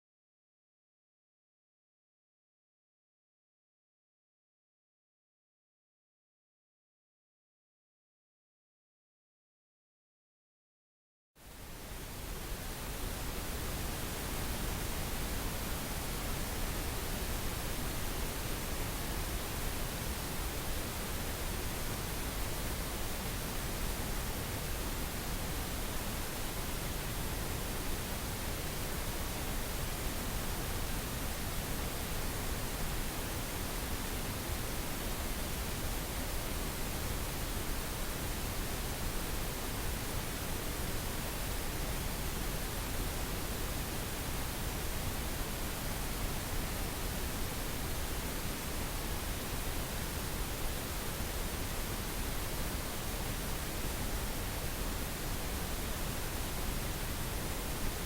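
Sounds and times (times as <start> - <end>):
pink noise hiss: 11.4 - 58.0.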